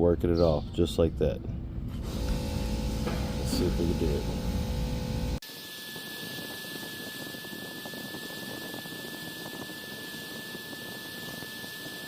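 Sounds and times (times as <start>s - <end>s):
handheld grinder whining: 2.0s - 12.0s.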